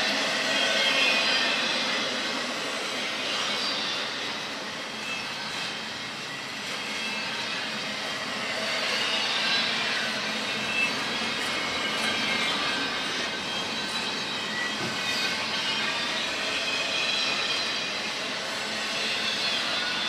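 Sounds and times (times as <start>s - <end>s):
train wheels on rails: 0.0s - 20.0s
high wheel squeal: 0.1s - 20.0s.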